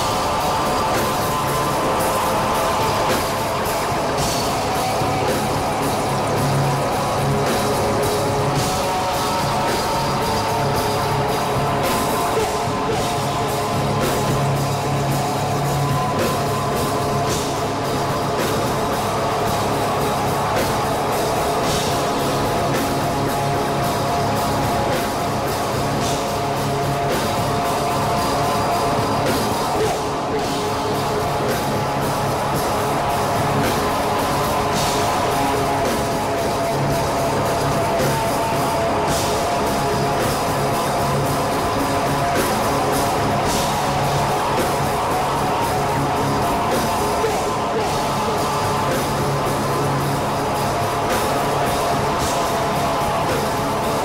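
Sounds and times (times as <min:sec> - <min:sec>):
drum and cymbal hits: 0:00.0 - 0:54.0
drum kit: 0:00.0 - 0:54.0
electric guitar chords: 0:00.0 - 0:54.0.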